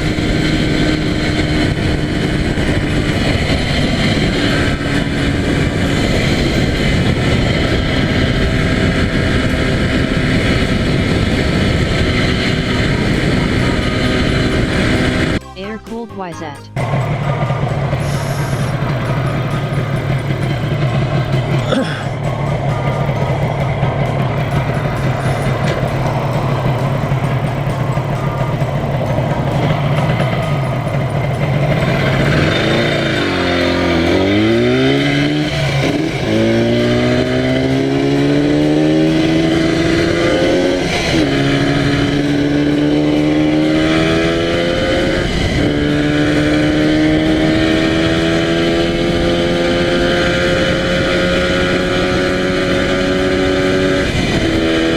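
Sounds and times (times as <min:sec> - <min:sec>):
motorcycle engine accelerating: 0:00.0 - 0:15.4, 0:16.8 - 0:54.9.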